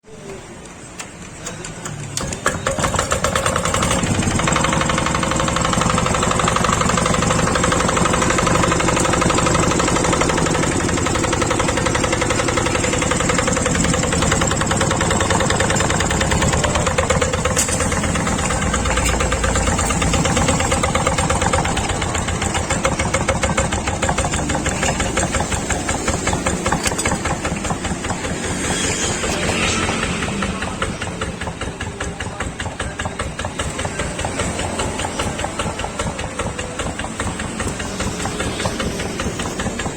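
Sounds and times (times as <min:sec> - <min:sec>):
diesel engine knocking steadily: 0:00.9 - 0:39.9.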